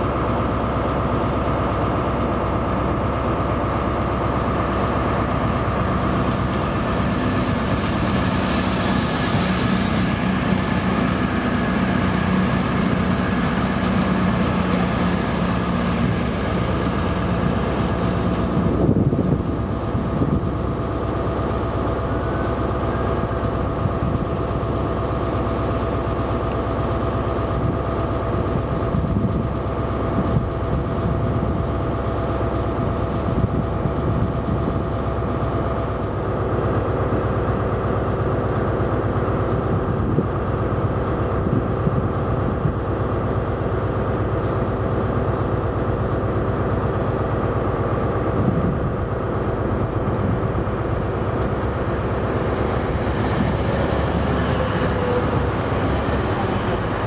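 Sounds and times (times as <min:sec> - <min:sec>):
diesel train engine: 0:00.0 - 0:57.0
steady train whine: 0:00.0 - 0:57.0.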